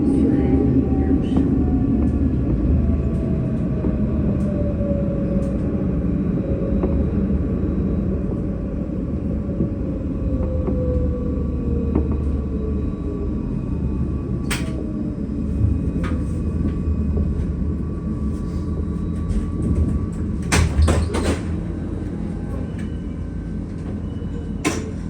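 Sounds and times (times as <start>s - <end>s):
tram rumbling: 0.0s - 25.0s.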